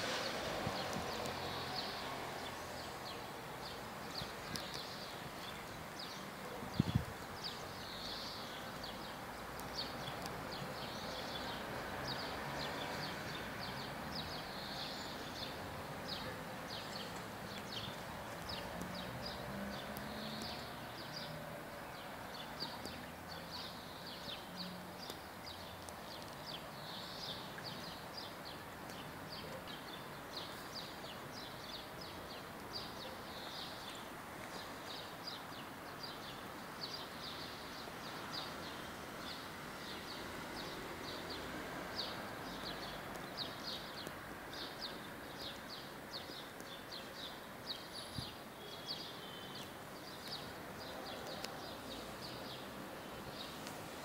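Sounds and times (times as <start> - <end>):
small birds chirping: 0.0 - 54.0
steady outdoor hiss: 0.0 - 54.0.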